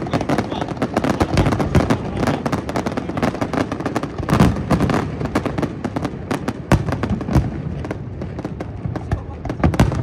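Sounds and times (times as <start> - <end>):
fireworks bangs and crackles: 0.0 - 10.0
sharp firework report: 0.0 - 10.0.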